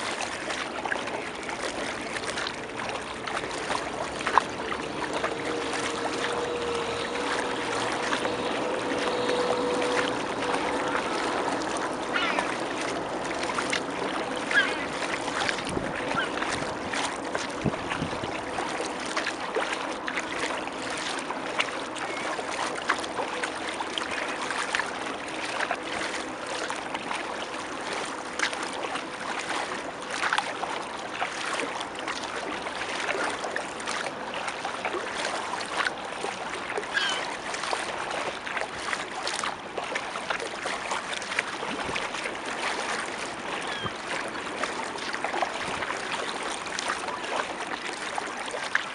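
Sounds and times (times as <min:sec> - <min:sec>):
kayak paddle splashing water: 0:00.0 - 0:48.9
water lapping against hull: 0:00.0 - 0:48.9.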